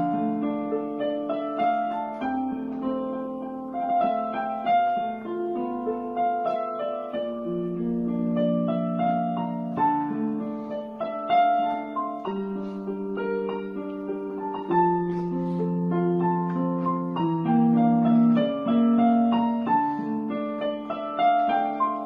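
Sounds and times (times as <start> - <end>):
digital piano playing chords: 0.0 - 22.0.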